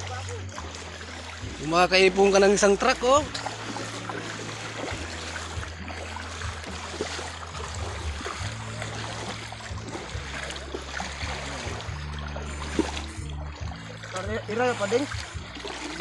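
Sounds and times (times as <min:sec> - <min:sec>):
low hum: 0:00.0 - 0:14.5
rushing creek water: 0:00.0 - 0:16.0
water sloshing and splashing: 0:00.0 - 0:16.0.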